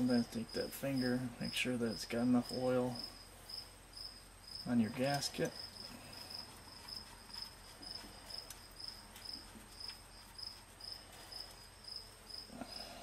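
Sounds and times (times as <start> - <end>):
insect chirping: 0.1 - 13.0.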